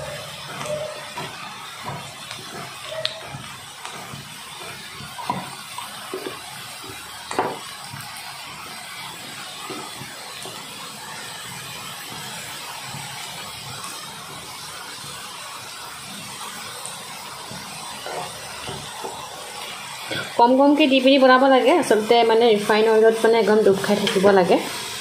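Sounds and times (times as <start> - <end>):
fries sizzling in oil: 0.0 - 25.0.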